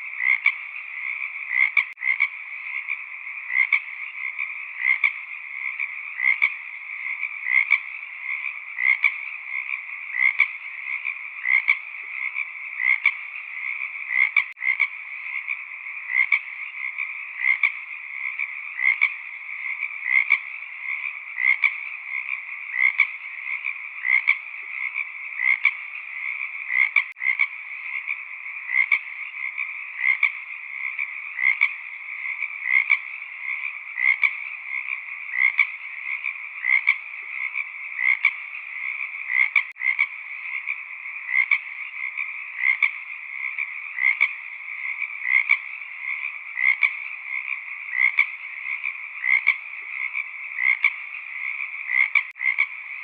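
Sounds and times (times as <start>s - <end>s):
chorus of frogs calling: 0.0s - 53.0s.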